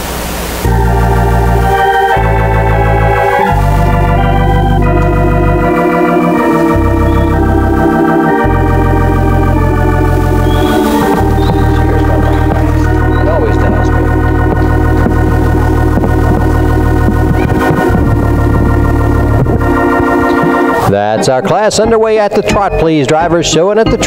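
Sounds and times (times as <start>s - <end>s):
electronic organ music: 0.6s - 24.0s.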